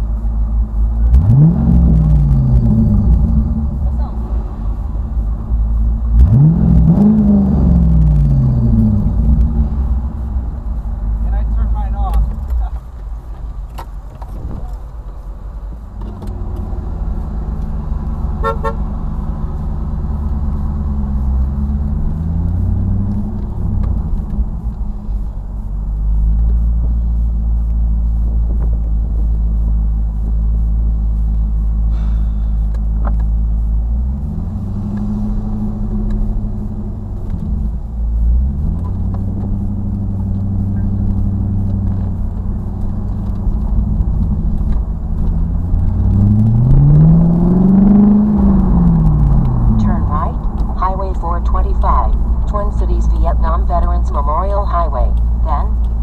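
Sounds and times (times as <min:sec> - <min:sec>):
car engine and exhaust drone: 0:00.0 - 0:56.0.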